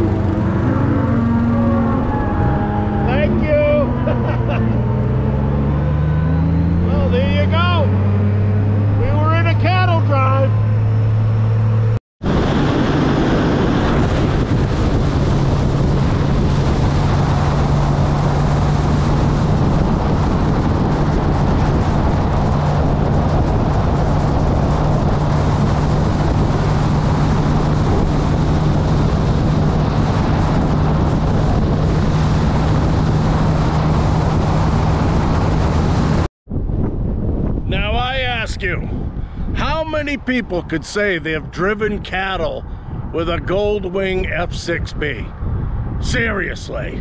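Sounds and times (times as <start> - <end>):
motorcycle engine hum: 0.0 - 38.1
wind and road noise: 0.0 - 47.0.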